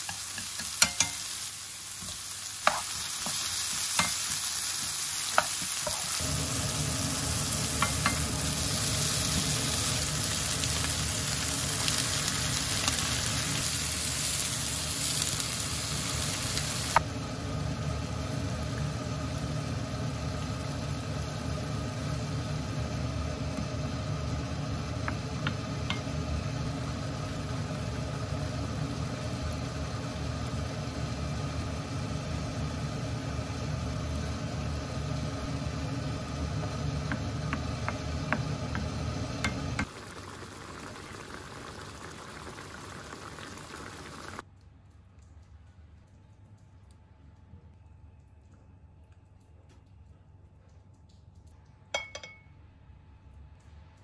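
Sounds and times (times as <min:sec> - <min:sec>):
vegetables sizzling in a pan: 0:00.0 - 0:44.4
sauce simmering: 0:00.0 - 0:44.5.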